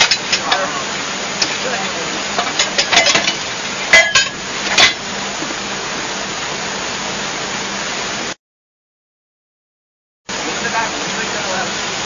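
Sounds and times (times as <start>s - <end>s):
machinery hiss and hum: 0.0s - 8.4s, 10.3s - 12.0s.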